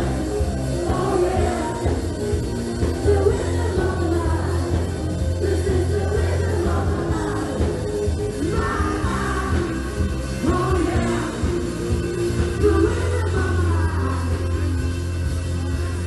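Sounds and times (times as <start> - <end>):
person singing: 0.0 - 14.8
live pop rock band: 0.0 - 16.0.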